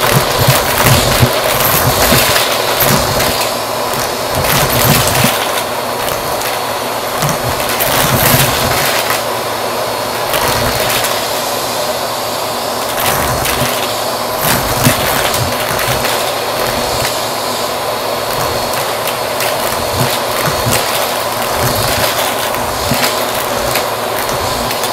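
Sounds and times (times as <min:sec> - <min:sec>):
coins rattling: 0:00.0 - 0:09.3, 0:10.3 - 0:11.2, 0:12.8 - 0:17.2, 0:18.3 - 0:24.9
vacuum cleaner running: 0:00.0 - 0:24.9.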